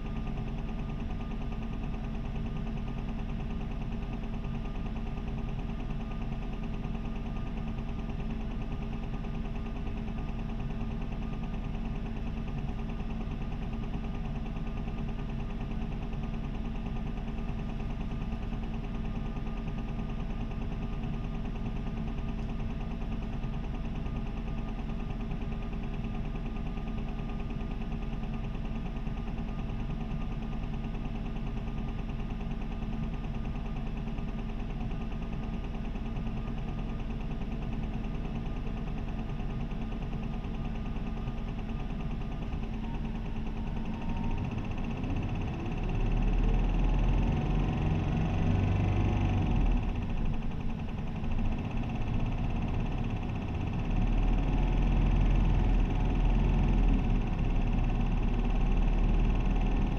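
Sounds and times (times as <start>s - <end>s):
bus diesel engine idling and revving: 0.0s - 59.9s.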